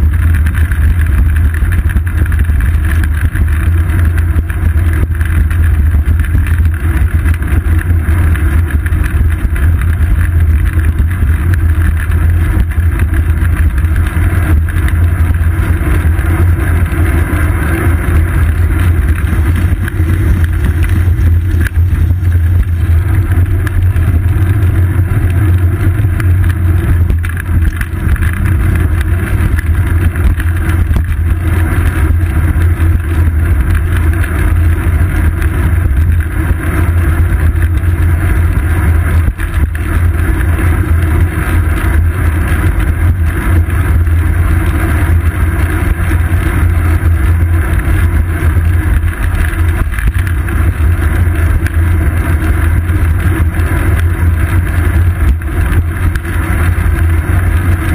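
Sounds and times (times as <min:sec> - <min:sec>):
road vibration rumble: 0:00.0 - 0:57.9
wind on microphone: 0:00.0 - 0:57.9.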